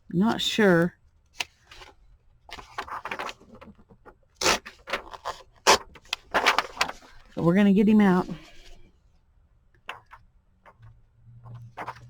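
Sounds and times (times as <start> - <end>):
book pages rustling: 1.4 - 8.9, 9.9 - 12.0.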